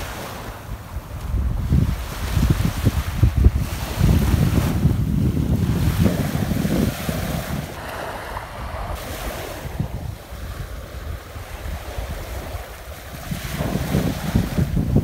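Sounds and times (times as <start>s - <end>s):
small waves lapping on shore: 0.0s - 15.0s
wind buffeting microphone: 0.0s - 15.0s.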